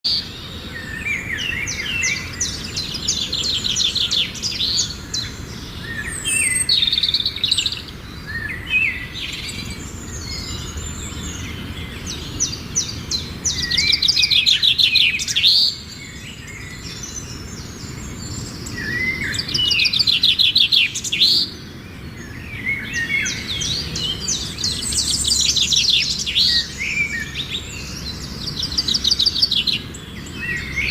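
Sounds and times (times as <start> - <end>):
small birds chirping and singing: 0.0 - 30.9.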